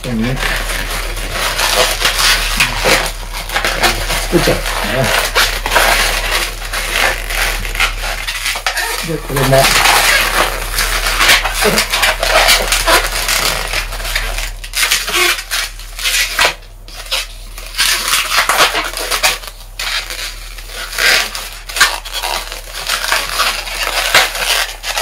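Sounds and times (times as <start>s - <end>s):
rubber balloons rubbing: 0.0s - 25.0s.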